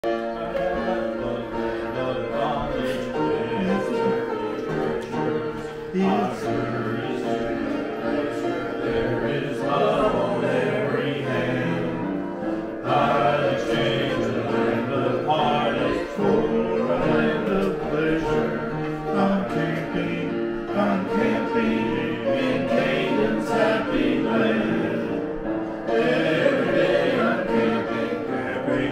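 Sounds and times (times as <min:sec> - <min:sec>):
group singing a gospel hymn: 0:00.0 - 0:28.9.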